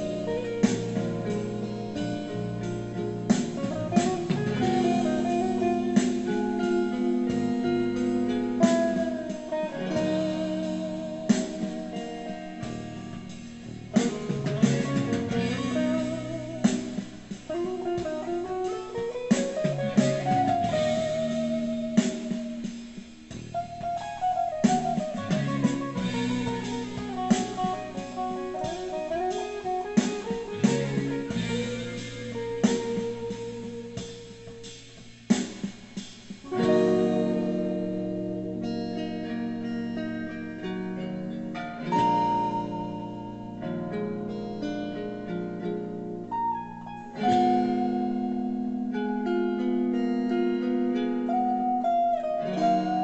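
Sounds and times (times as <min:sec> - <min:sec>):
backing track: 0:00.0 - 0:53.0
electric guitar lead: 0:00.0 - 0:53.0.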